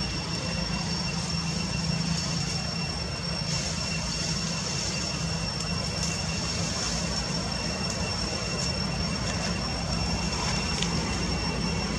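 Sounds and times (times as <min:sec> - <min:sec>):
low drone: 0:00.0 - 0:11.9
thin high whine: 0:00.0 - 0:11.9.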